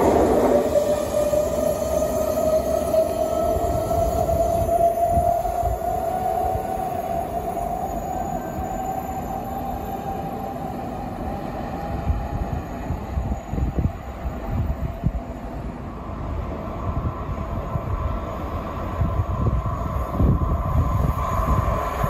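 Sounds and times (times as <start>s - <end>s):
electric train high whine: 0.0s - 22.0s
train wheels rumbling on rails: 0.0s - 22.0s.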